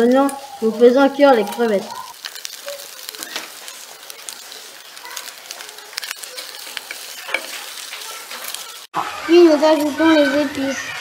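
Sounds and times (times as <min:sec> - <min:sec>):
prawns sizzling in a pot: 0:00.0 - 0:11.0.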